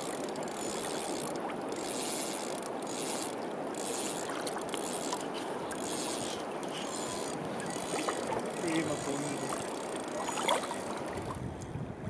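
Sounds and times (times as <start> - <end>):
fishing reel drag buzzing: 0.0 - 11.4.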